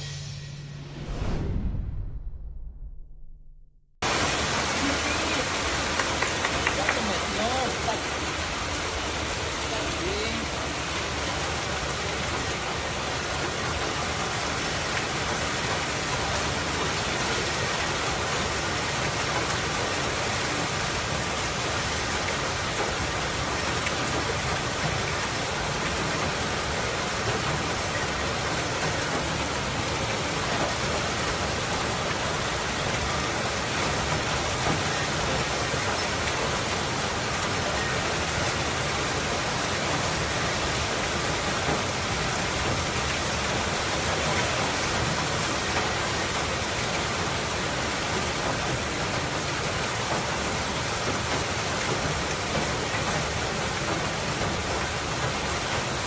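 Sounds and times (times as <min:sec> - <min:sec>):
heavy rain and hail: 0:04.0 - 0:56.0.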